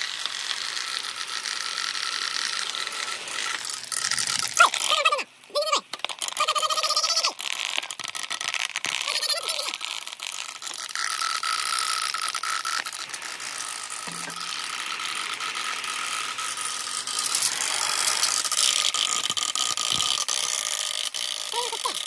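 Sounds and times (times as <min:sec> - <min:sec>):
marbles rolling along a bamboo run: 0:00.0 - 0:22.0.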